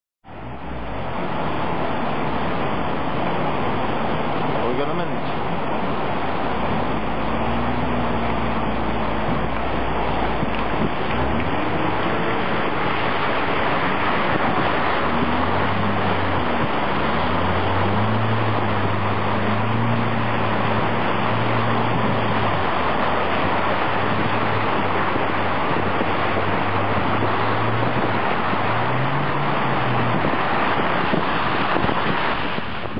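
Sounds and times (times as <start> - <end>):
car engine: 0.2 - 32.9
water rushing from car wheels: 0.2 - 32.9.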